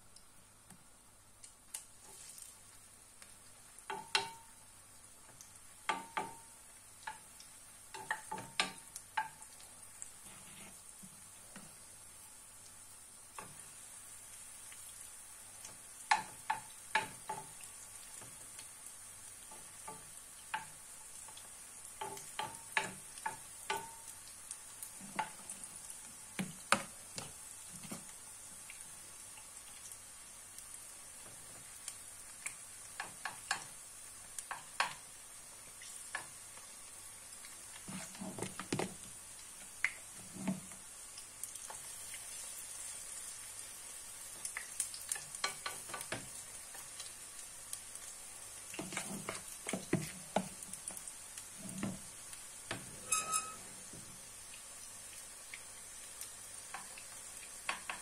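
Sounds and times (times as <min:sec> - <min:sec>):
patties sizzling in oil: 0:00.0 - 0:58.0.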